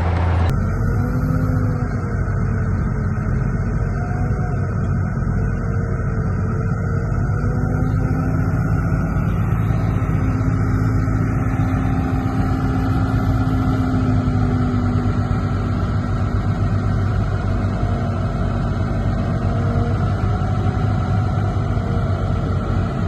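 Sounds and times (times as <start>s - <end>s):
heavy machinery diesel engine: 0.0s - 23.0s.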